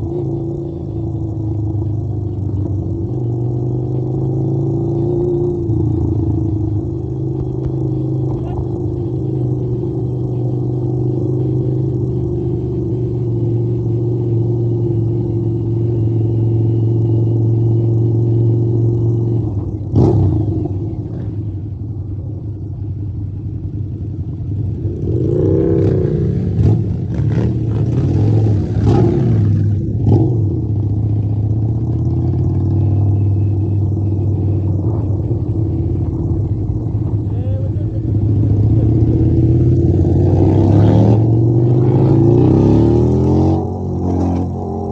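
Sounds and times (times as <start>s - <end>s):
motorcycle engine droning: 0.0s - 44.9s.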